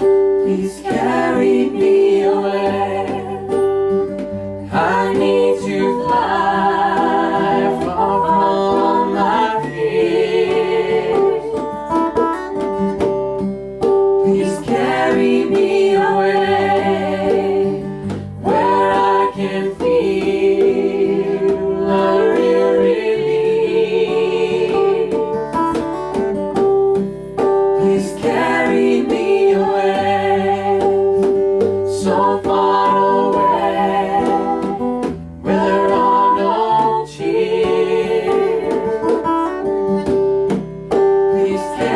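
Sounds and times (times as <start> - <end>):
person singing: 0.0 - 3.7, 4.6 - 11.7, 14.2 - 25.7, 27.8 - 31.3, 32.0 - 39.6, 41.2 - 41.9
acoustic guitar: 0.0 - 41.9
folk-rock band music: 0.0 - 41.9.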